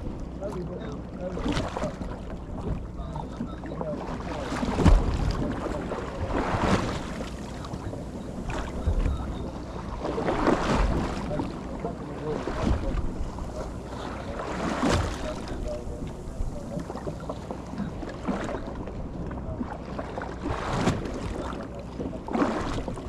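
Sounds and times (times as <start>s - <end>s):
low steady hum: 0.0s - 23.0s
water noise: 0.0s - 23.0s
wind: 0.0s - 23.0s.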